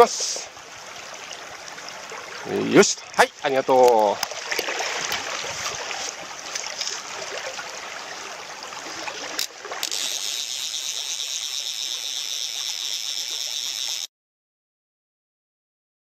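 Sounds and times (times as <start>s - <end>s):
river current rushing: 0.0s - 14.1s.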